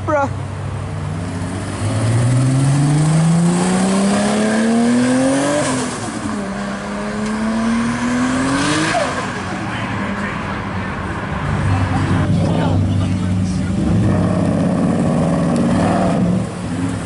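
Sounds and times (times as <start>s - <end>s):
car engine accelerating hard: 1.2s - 17.0s.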